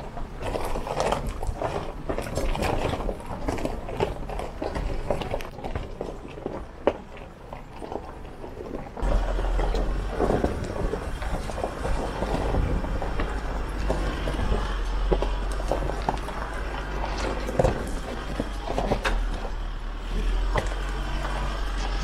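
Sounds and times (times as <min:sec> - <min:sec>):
diesel engine running low: 0:00.0 - 0:22.0
stones crunching under tyres: 0:00.0 - 0:22.0.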